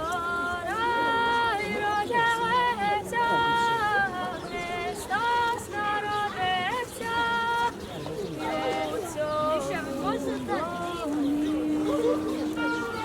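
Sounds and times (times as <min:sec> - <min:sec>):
child singing unaccompanied: 0:00.0 - 0:13.0.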